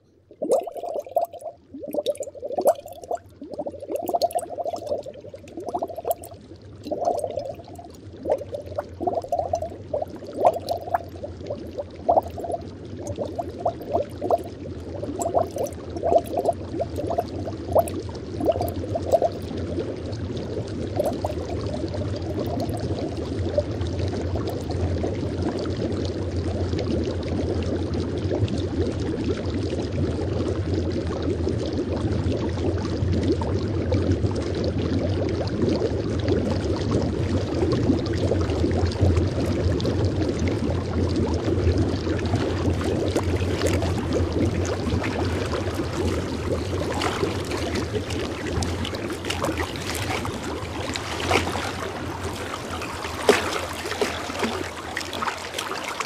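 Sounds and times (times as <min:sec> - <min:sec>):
water bubbling and dripping: 0:00.1 - 0:56.0.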